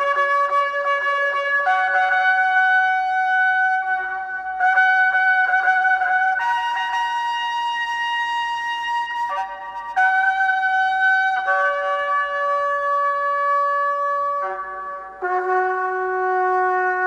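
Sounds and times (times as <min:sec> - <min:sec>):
trumpet-like slow melody: 0:00.0 - 0:17.0.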